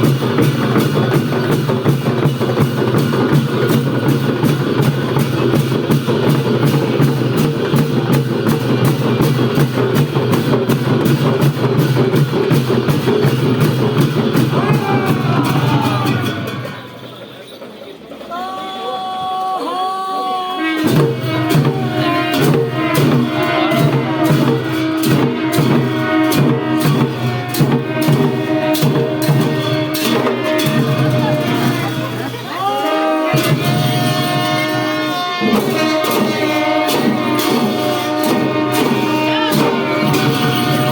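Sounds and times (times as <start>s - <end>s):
drums and cymbals fast beat: 0.0s - 17.2s, 20.6s - 40.9s.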